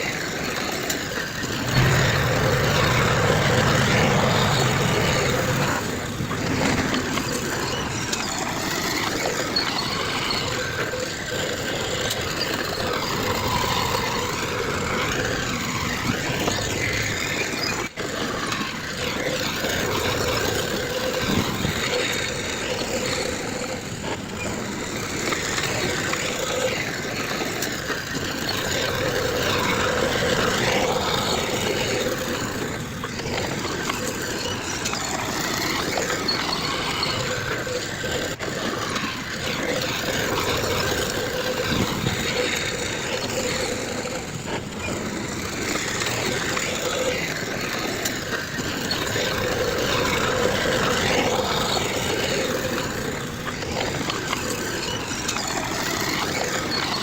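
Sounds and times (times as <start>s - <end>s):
heavy earthmoving machinery running: 0.0s - 57.0s.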